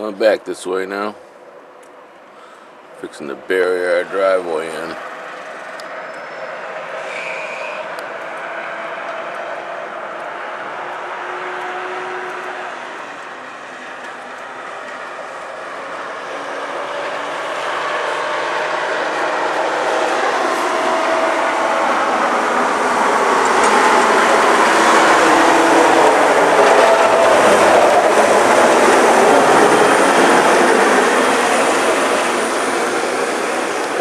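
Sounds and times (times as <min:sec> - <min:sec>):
snowplow truck driving past: 0:04.0 - 0:34.0.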